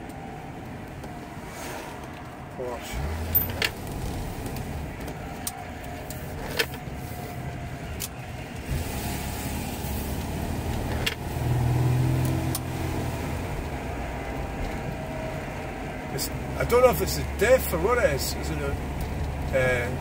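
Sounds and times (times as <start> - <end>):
car interior drone: 0.0 - 20.0.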